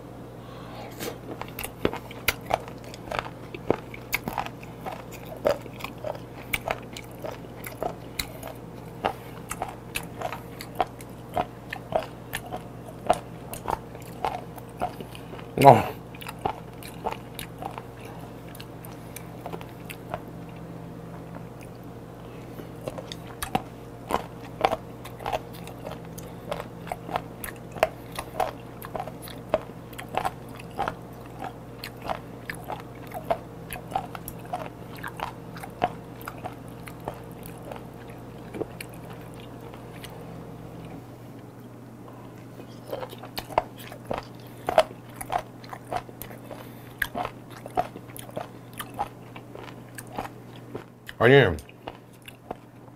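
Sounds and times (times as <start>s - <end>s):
person chewing crunchy bones: 0.5s - 41.5s, 42.1s - 52.9s.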